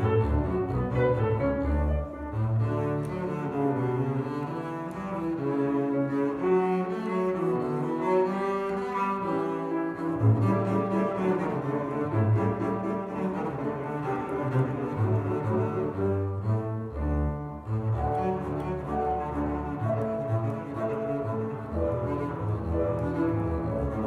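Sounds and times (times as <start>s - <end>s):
bowed double bass: 0.0s - 24.0s.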